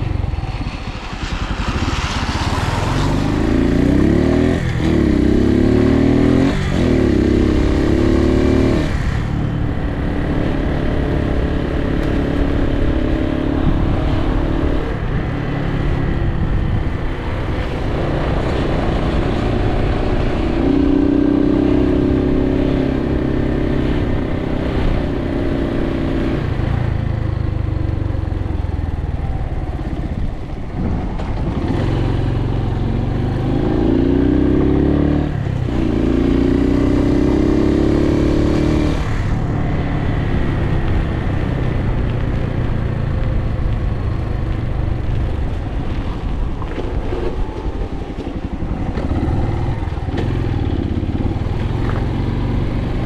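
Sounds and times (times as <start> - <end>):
motorcycle engine revving: 0.0 - 28.5, 29.7 - 53.0
wind and road noise: 0.0 - 53.0.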